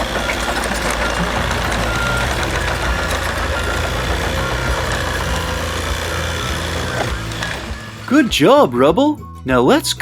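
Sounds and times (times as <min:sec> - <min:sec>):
low engine rumble: 0:00.0 - 0:08.8.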